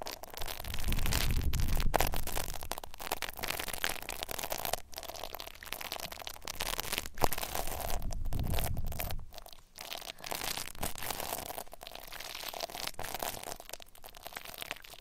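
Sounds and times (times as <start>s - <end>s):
crackly rustling on microphone: 0.0s - 15.0s.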